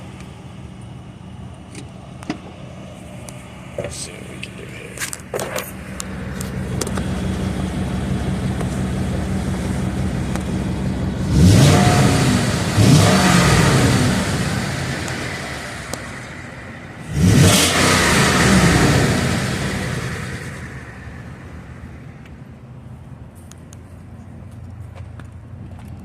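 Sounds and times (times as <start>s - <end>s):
truck engine idling and revving: 0.0s - 26.0s.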